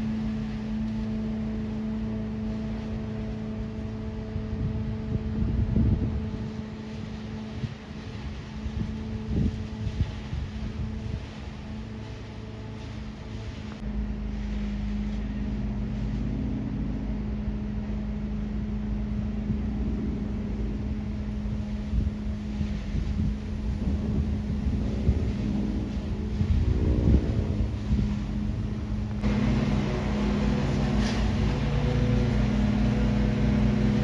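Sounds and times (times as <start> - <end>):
airplane engine drone: 0.0 - 34.0
wind rumbling on microphone: 0.0 - 34.0.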